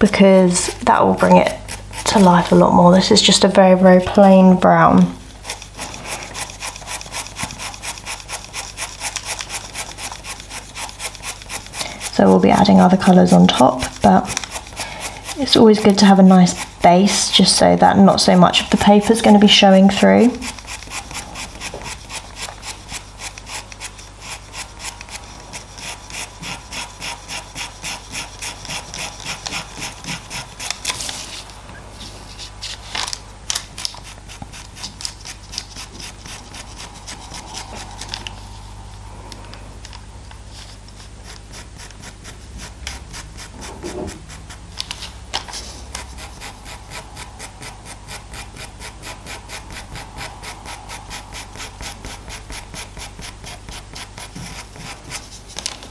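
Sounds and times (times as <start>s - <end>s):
pencil scratching on paper: 0.1s - 4.8s, 5.4s - 31.5s, 33.8s - 38.3s, 40.5s - 55.7s.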